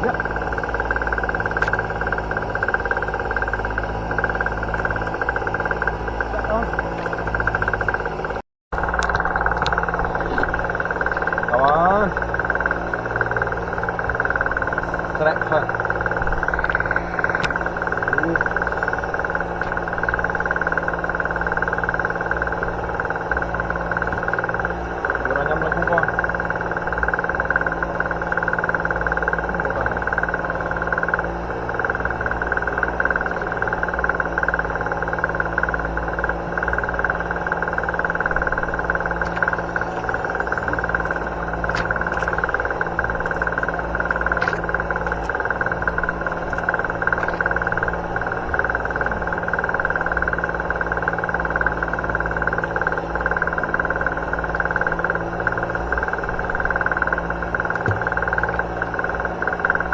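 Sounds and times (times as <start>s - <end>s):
boat engine droning: 0.0s - 59.9s
constant high hum: 0.0s - 59.9s.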